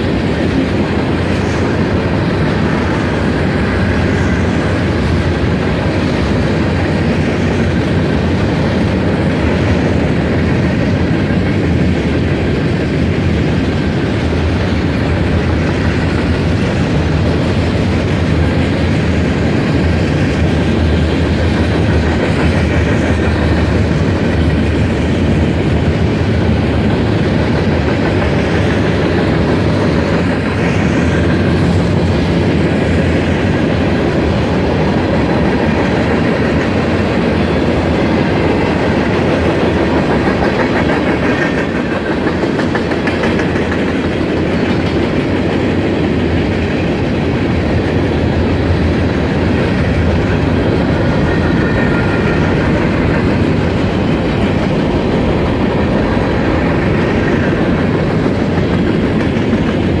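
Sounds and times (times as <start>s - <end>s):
freight cars rolling on rails: 0.0s - 60.0s.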